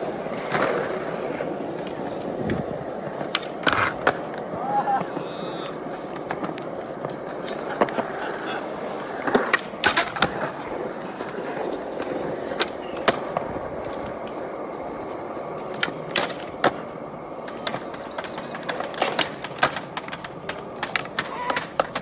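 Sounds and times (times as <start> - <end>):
skateboard popping and landing clacks: 0.0 - 22.0
skateboard wheels rolling on concrete: 0.0 - 22.0.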